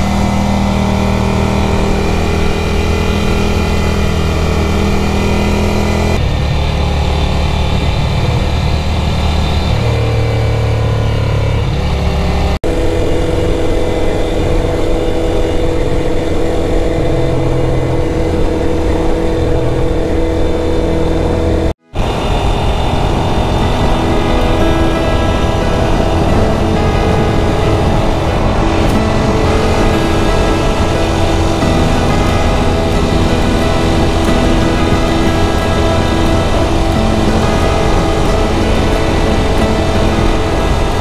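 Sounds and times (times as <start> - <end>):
motorcycle engine running: 0.0 - 41.0
wind noise: 0.0 - 41.0.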